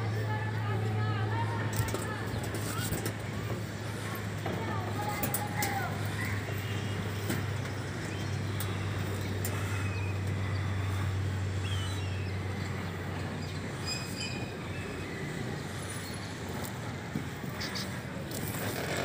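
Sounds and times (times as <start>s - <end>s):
low mechanical hum and rumble: 0.0s - 19.0s.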